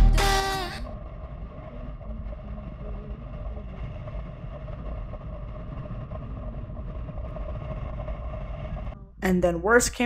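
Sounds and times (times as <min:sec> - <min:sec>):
wind rushing over microphone: 0:00.8 - 0:09.0.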